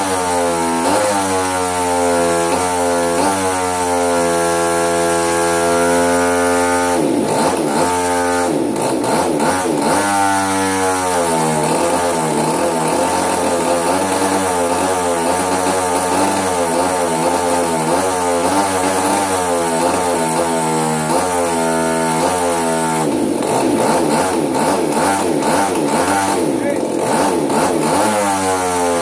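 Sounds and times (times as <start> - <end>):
model aircraft engine misfiring: 0.0 - 29.0.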